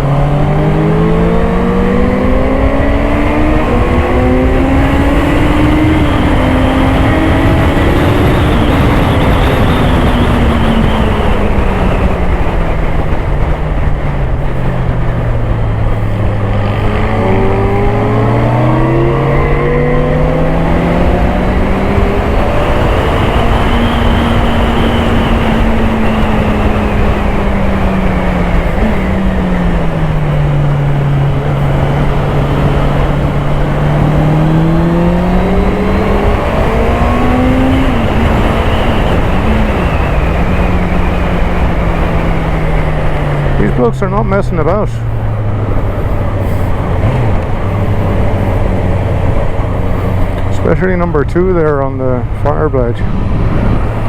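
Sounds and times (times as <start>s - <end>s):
motorcycle engine: 0.0s - 54.0s
wind rush: 0.0s - 54.0s.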